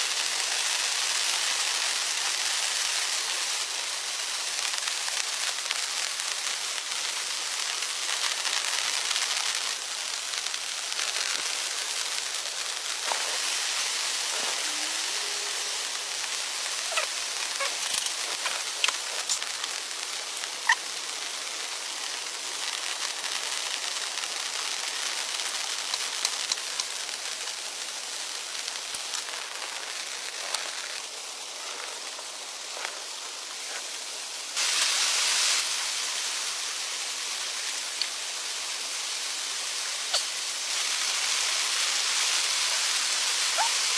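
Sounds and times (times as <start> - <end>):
rain hiss: 0.0 - 43.9.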